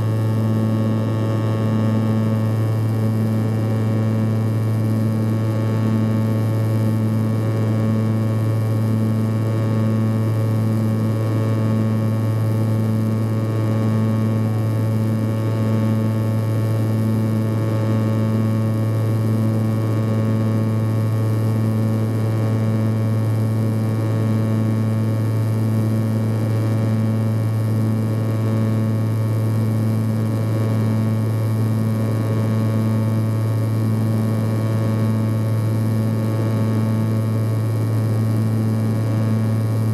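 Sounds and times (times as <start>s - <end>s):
throbbing propeller drone: 0.0s - 39.9s.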